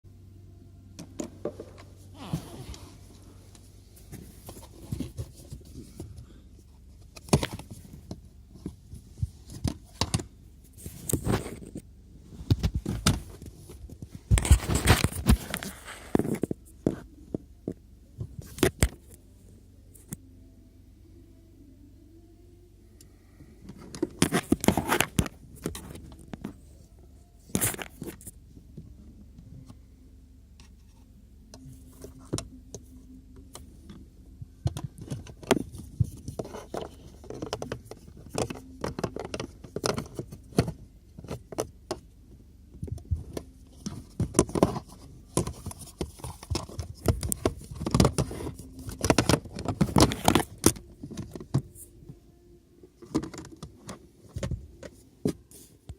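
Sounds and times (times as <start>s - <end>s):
faint steady hum: 0.1s - 55.9s.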